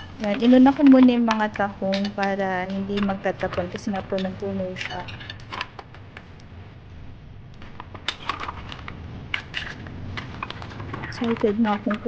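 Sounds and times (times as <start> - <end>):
mussel shells clicking in plastic bowl: 0.1 - 6.2, 7.7 - 12.0.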